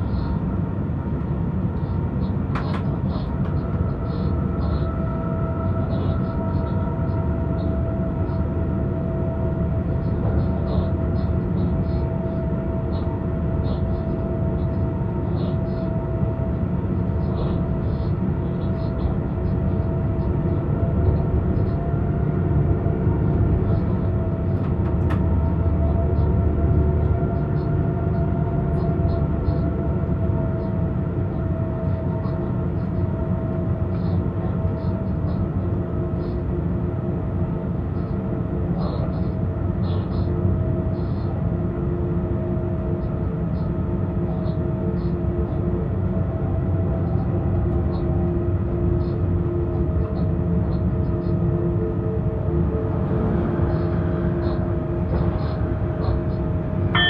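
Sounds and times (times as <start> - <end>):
locomotive drive whine: 0.0 - 57.0
wheels rumbling on rails: 0.0 - 57.0.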